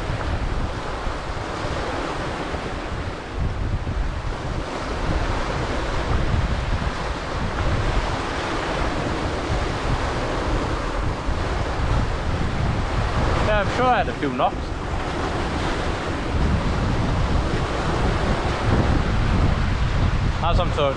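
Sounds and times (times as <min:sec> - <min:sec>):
waves washing onto shore: 0:00.0 - 0:20.9
wind buffeting microphone: 0:00.0 - 0:20.9.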